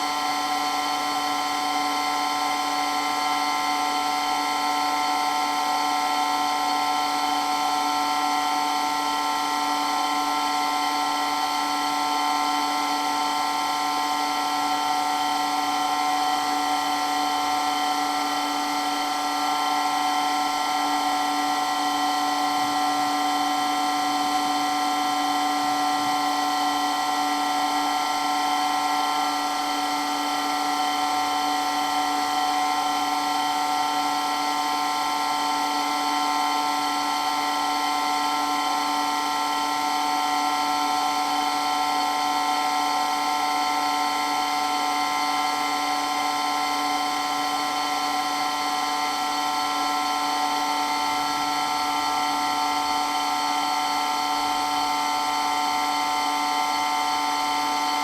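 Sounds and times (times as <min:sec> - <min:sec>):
water pump motor whine: 0:00.0 - 0:58.0.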